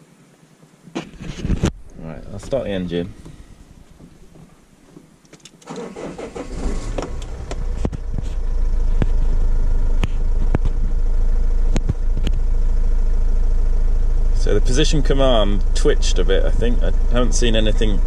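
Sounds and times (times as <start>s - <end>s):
diesel engine cranking and idling: 1.6s - 18.0s.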